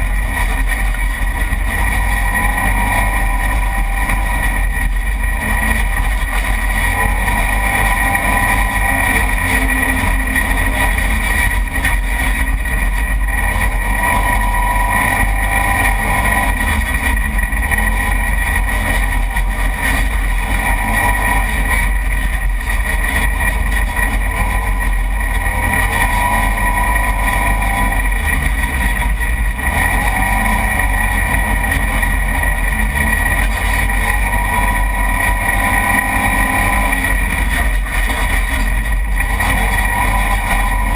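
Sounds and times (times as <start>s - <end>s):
vehicle engine whine: 0.0s - 40.9s
wind and rough ride rumble: 0.0s - 40.9s.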